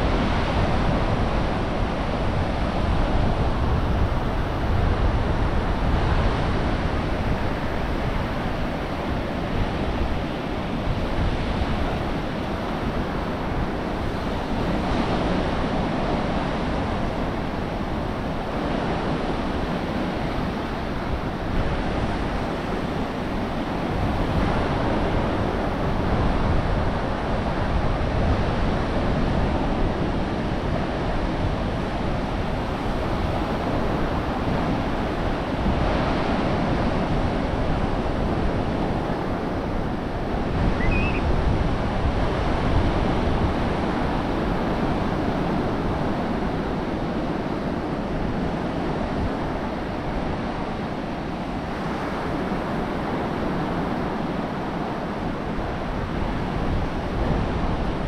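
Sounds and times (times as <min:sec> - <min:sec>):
ocean surf washing on beach: 0:00.0 - 0:58.0
wind rumbling on microphone: 0:00.0 - 0:58.0.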